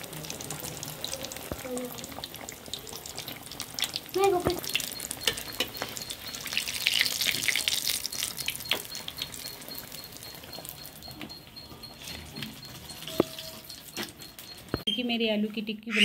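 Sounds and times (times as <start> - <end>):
fritters deep-frying in oil: 0.0 - 15.5.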